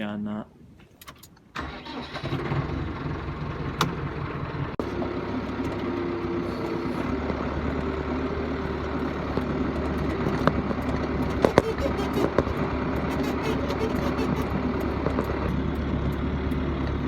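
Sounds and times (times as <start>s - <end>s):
tractor diesel engine running: 1.6s - 17.0s.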